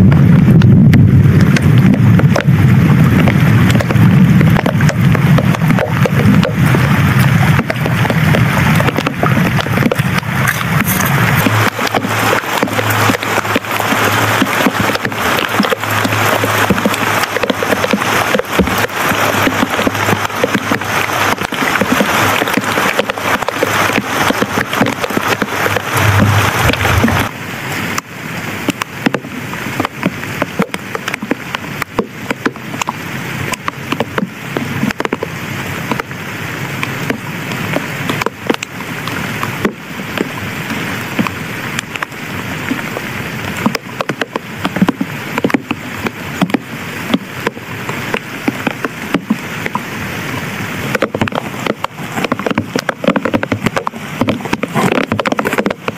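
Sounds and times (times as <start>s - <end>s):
heavy rain on leaves: 0.0s - 55.9s.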